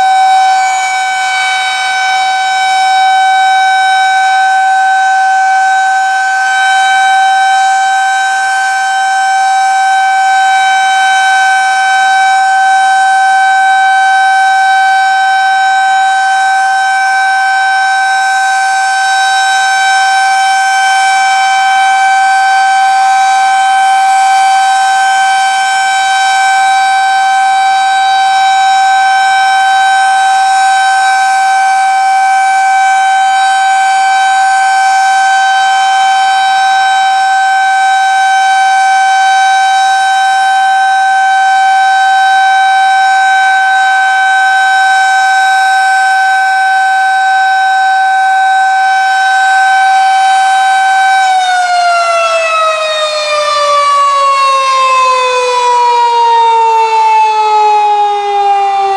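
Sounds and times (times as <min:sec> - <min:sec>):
warning siren alert tone: 0:00.0 - 0:58.9.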